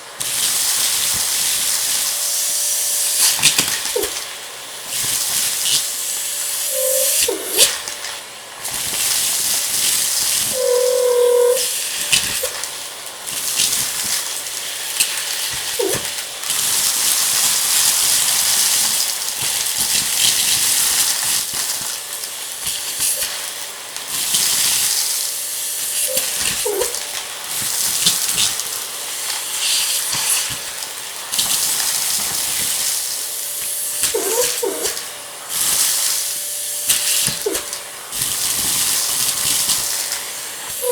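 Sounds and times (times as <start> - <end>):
vacuum cleaner air rush: 0.0 - 40.9
vacuum motor whine: 0.0 - 40.9.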